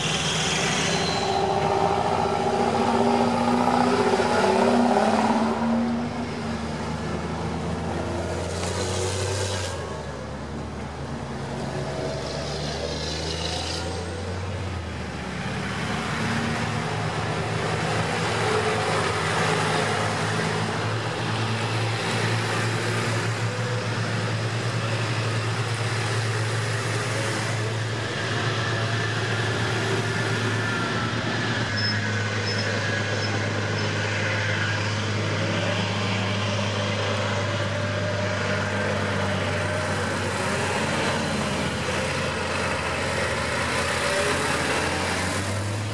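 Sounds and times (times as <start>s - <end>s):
diesel engines humming: 0.0s - 45.9s
tyres on tarmac: 0.0s - 45.9s.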